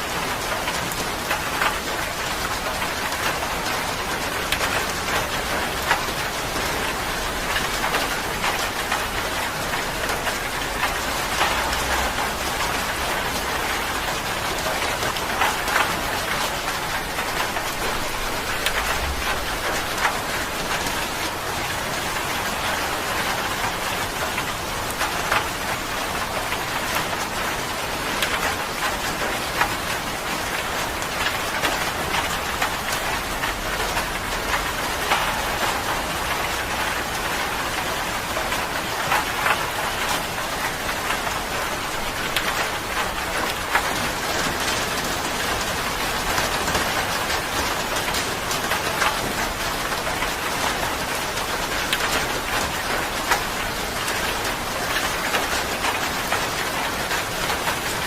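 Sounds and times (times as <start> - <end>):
steady rain hissing: 0.0 - 58.0
raindrops tapping: 0.2 - 58.0.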